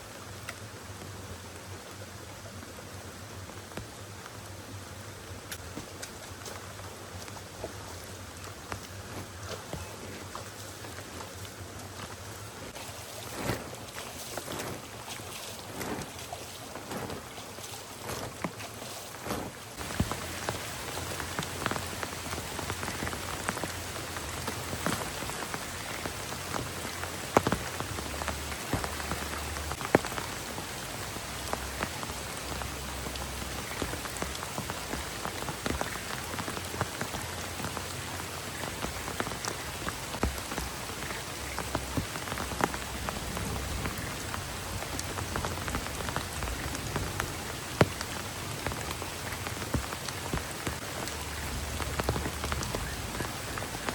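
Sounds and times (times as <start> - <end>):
heavy rain falling: 0.0 - 53.9
raindrops ticking on surfaces: 0.0 - 53.9.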